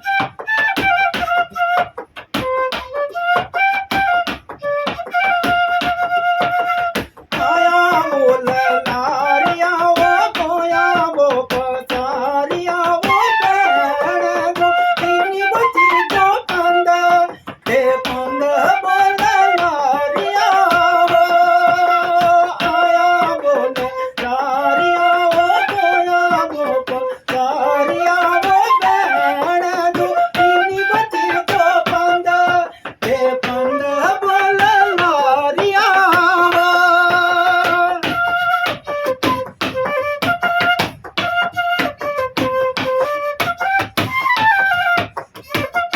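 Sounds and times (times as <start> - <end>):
ornamented folk melody: 0.0 - 45.9
quick percussive taps: 0.0 - 45.9.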